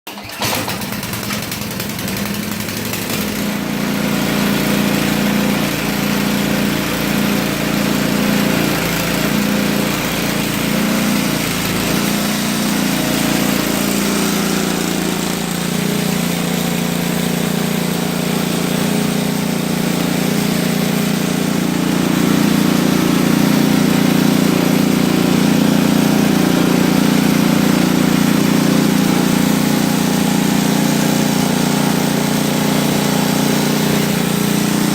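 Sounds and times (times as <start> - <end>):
small engine running: 0.1 - 34.9.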